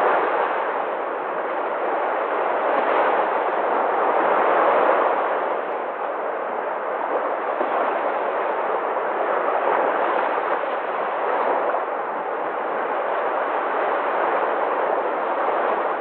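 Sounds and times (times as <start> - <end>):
sea surf roaring: 0.0 - 16.0.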